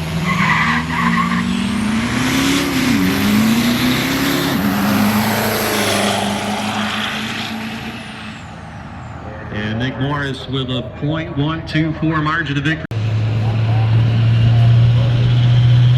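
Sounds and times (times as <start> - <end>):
diesel truck engine at full throttle: 0.0 - 15.9.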